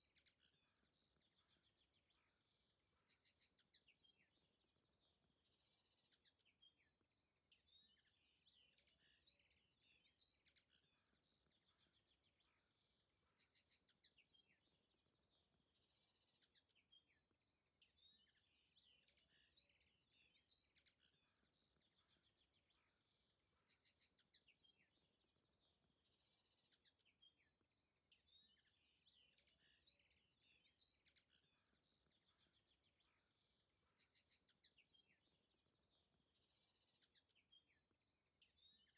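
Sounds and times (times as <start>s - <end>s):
faint songbird chirps: 0.0s - 38.9s.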